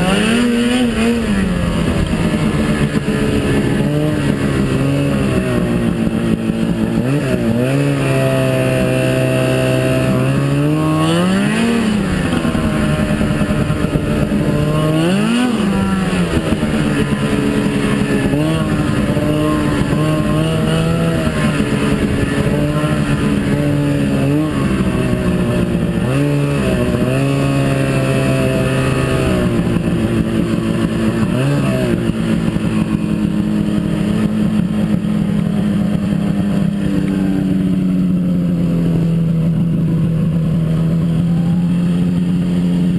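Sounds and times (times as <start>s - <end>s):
snowmobile engine revving: 0.0s - 42.9s.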